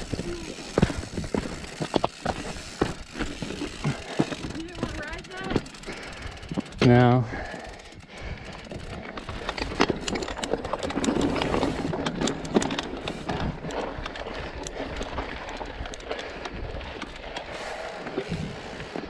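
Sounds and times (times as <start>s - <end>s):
tyres crunching over dirt and stones: 0.0s - 7.0s, 8.4s - 19.0s
bike rattling over bumps: 0.0s - 19.0s.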